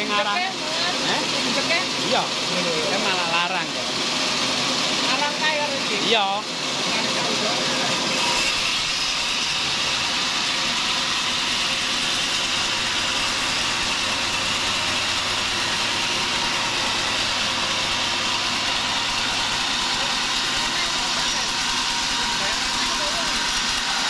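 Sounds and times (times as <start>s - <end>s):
band saw cutting log: 0.0s - 24.0s.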